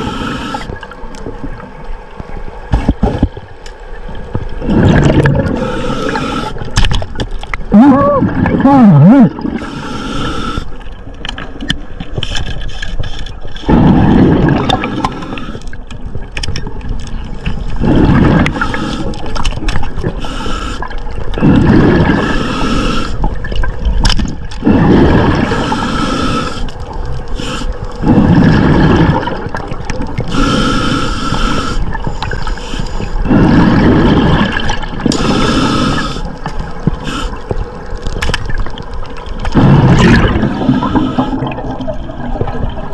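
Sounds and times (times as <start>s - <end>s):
underwater bubbling and gurgling: 0.0s - 42.9s.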